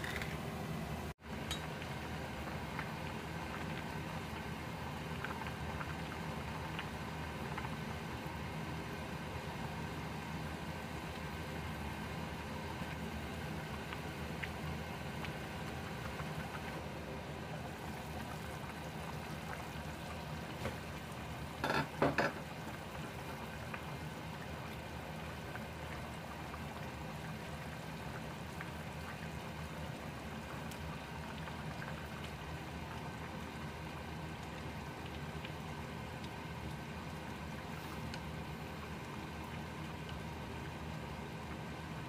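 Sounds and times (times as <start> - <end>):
food bubbling and sizzling: 0.0 - 42.0.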